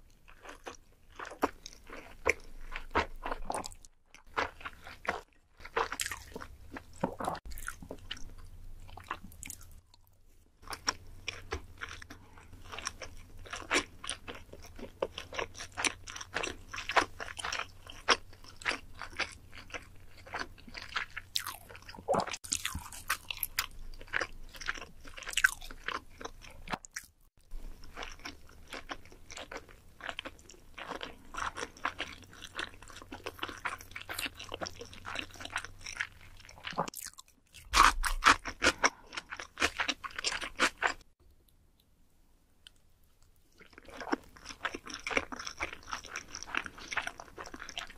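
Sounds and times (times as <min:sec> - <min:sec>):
chewing with wet mouth clicks: 0:00.0 - 0:41.1, 0:42.6 - 0:47.9.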